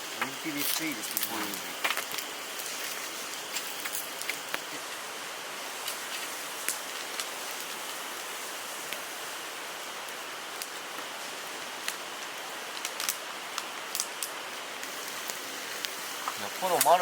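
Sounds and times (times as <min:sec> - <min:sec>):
fire crackling and popping: 0:00.0 - 0:17.0
fire hissing: 0:00.0 - 0:17.0.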